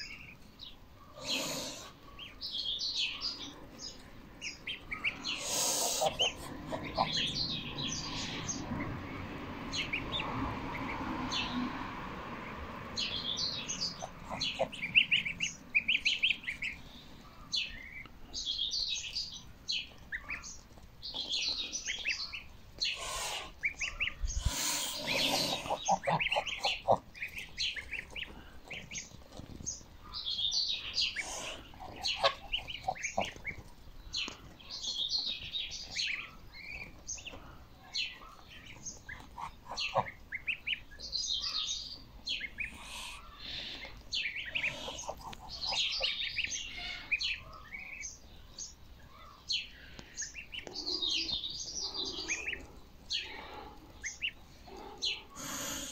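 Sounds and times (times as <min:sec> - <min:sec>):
lower bird calls: 0:01.0 - 0:08.8, 0:13.0 - 0:29.2, 0:30.0 - 0:55.9
goslings peeping: 0:01.1 - 0:11.6, 0:12.4 - 0:55.9.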